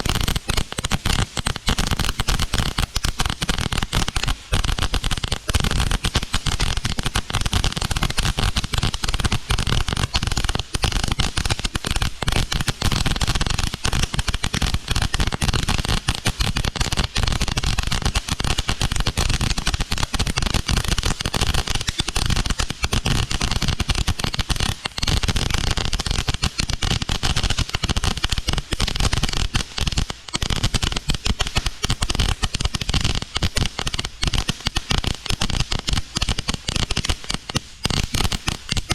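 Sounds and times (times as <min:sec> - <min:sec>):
firework crackling: 0:00.0 - 0:38.9.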